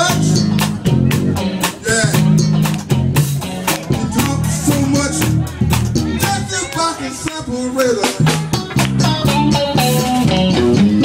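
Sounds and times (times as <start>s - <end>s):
drum kit beat: 0.0s - 11.0s
live band music: 0.0s - 11.0s.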